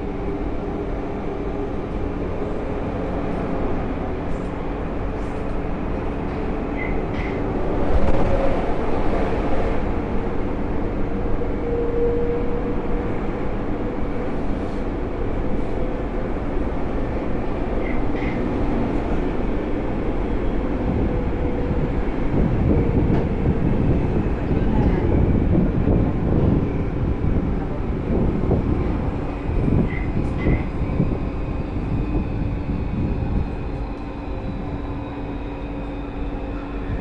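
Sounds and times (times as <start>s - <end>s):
metro train wheels rumbling: 0.0s - 37.0s.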